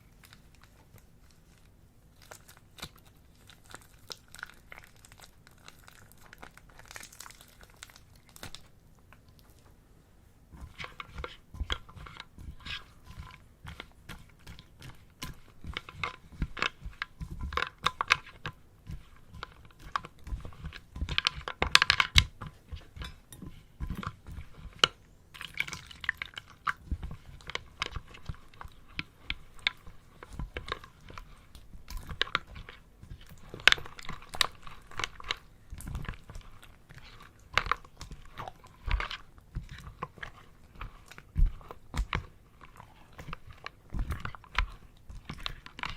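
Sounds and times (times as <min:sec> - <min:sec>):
slime squishing with sticky pops: 0:00.0 - 0:09.7, 0:10.6 - 0:45.9.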